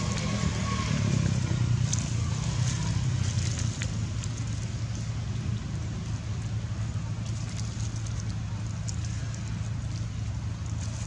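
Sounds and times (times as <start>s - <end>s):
engine low rumble: 0.0s - 11.0s
faint crackles: 1.6s - 11.0s.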